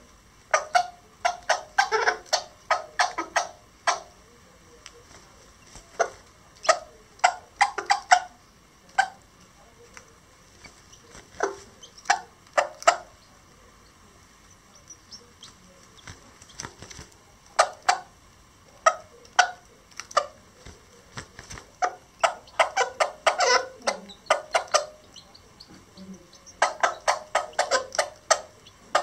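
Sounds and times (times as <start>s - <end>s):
hen clucking: 0.0s - 4.8s, 5.5s - 29.0s.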